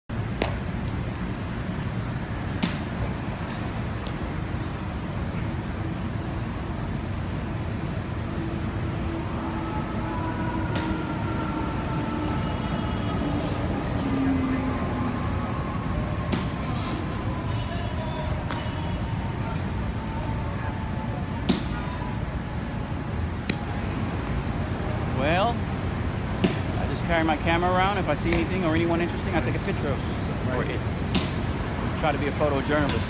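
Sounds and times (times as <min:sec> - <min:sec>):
street traffic rumble: 0:00.1 - 0:33.0.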